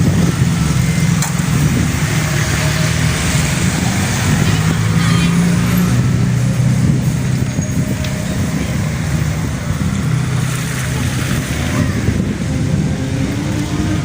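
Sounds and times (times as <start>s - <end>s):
car engine hum: 0.0s - 14.0s
road noise: 0.0s - 14.0s.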